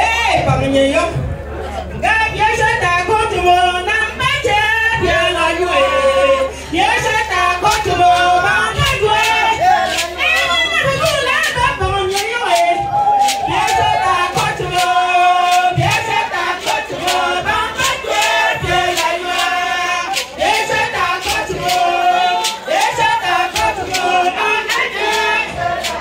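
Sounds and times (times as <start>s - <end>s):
steady percussive beat: 0.0s - 26.0s
women singing in chorus: 1.9s - 26.0s.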